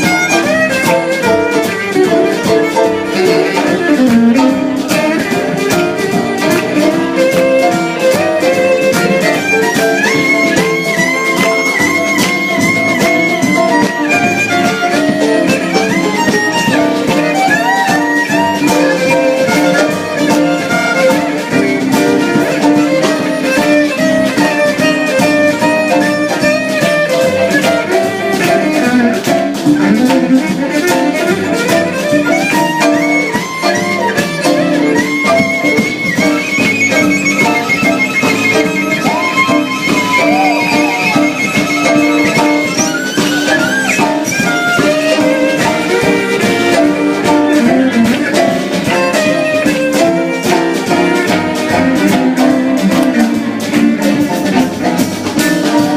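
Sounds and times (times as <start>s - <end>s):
fiddle melody: 0.0s - 55.9s
guitar: 0.0s - 55.9s.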